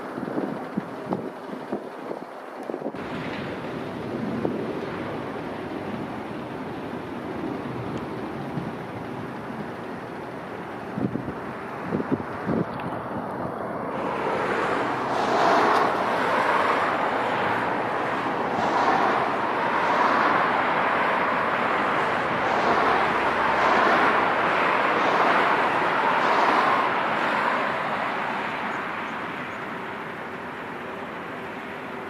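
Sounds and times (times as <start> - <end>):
jet engine noise: 0.0 - 32.0.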